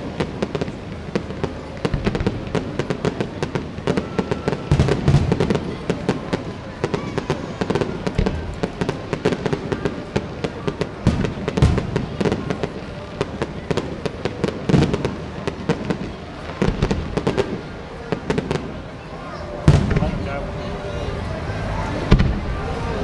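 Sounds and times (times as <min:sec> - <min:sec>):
firework shells booming: 0:00.0 - 0:20.4, 0:22.0 - 0:22.8
fireworks crackling and popping: 0:00.0 - 0:21.3, 0:22.0 - 0:23.0.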